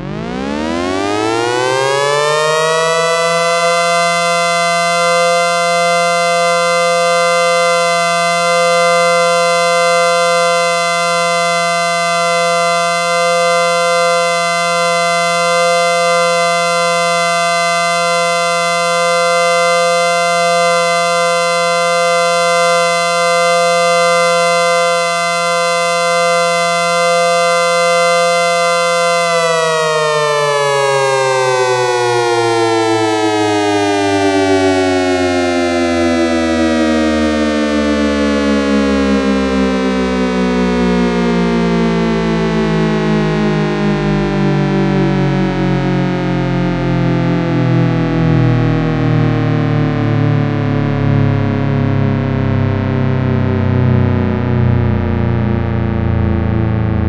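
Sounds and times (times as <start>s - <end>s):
civil defense siren winding: 0.0s - 57.0s.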